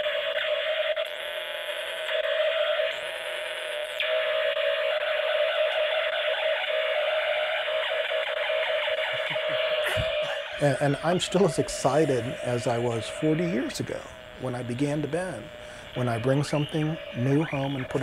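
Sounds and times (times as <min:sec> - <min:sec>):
distorted electronic drone: 0:00.0 - 0:18.0.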